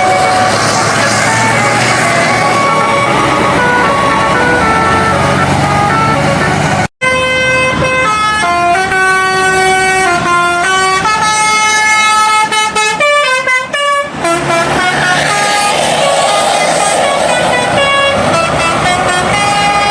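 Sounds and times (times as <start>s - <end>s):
bus musical horn tune: 0.0s - 19.9s.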